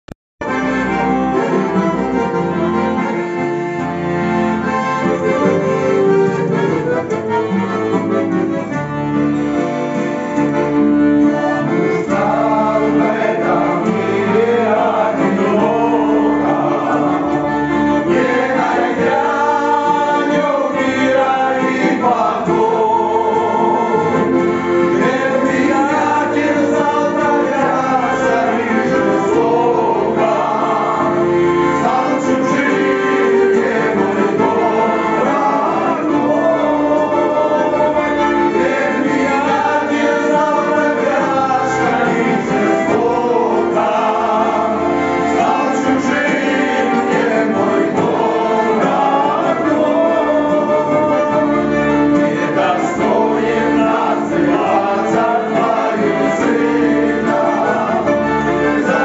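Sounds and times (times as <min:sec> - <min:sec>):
acoustic guitar playing: 0:00.4 - 0:59.0
button accordion playing: 0:00.4 - 0:59.0
men singing: 0:11.2 - 0:59.0.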